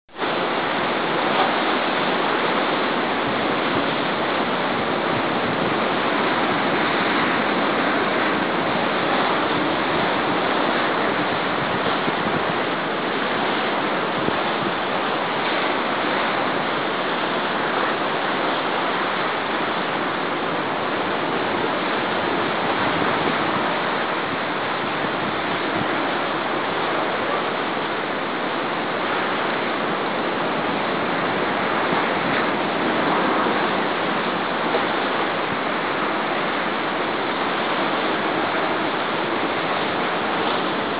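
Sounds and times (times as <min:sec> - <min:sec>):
waves breaking in heavy surf: 0:00.1 - 0:40.9.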